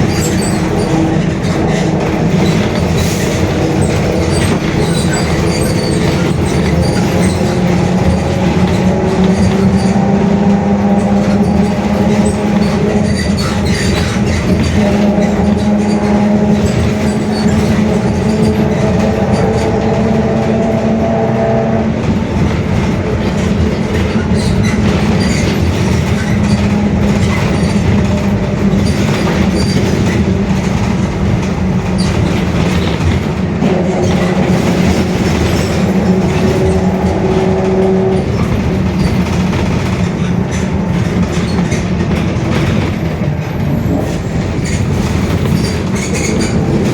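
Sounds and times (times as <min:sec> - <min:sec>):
bus engine and ride noise: 0:00.0 - 0:46.9.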